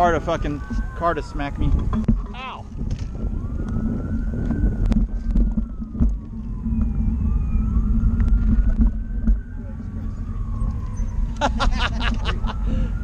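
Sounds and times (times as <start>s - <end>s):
rising and falling tone: 0.0s - 13.0s
road noise: 0.0s - 13.0s
wind rumbling on microphone: 0.0s - 13.0s.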